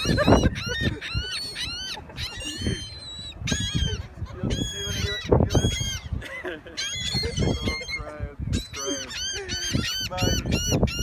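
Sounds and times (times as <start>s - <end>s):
seagulls squawking: 0.0s - 11.0s.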